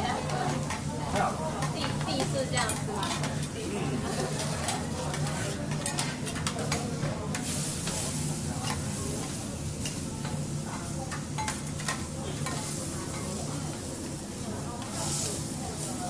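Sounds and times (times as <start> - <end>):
food sizzling on a griddle: 0.0 - 16.0.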